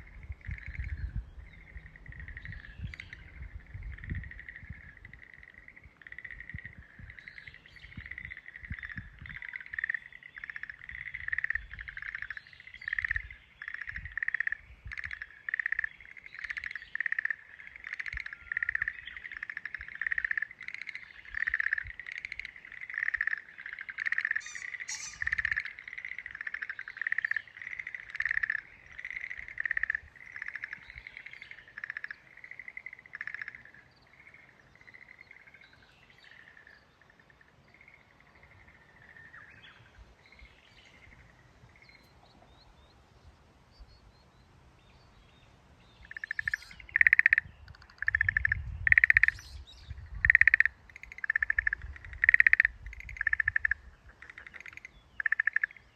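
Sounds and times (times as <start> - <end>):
frogs croaking: 0.0 - 43.0, 46.0 - 55.9.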